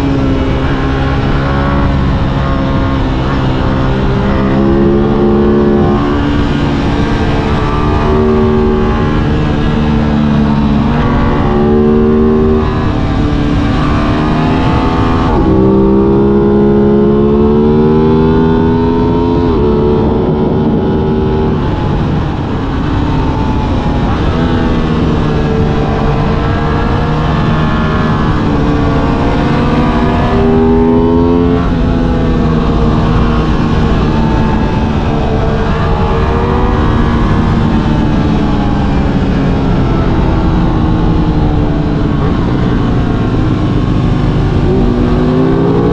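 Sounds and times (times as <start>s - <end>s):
motorcycle engine accelerating: 0.0s - 45.9s
road and wind noise: 0.0s - 45.9s.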